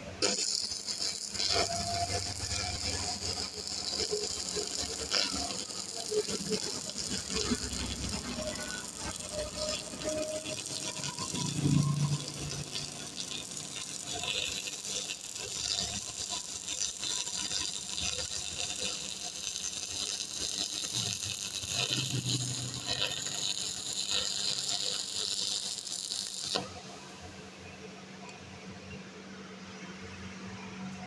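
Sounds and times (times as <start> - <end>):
welding arc crackling and sizzling: 0.0 - 28.4.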